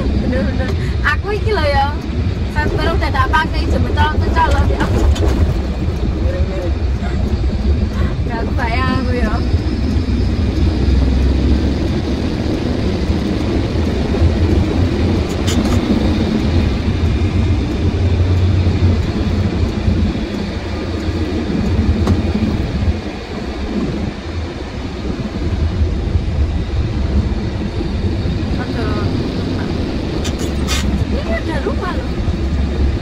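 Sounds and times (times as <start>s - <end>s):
road noise: 0.0s - 33.0s
truck engine rumble: 0.0s - 33.0s.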